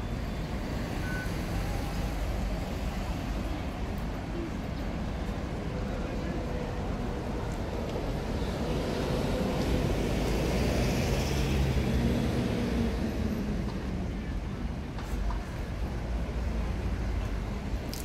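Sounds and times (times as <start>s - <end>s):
train rolling noise: 1.8s - 17.8s.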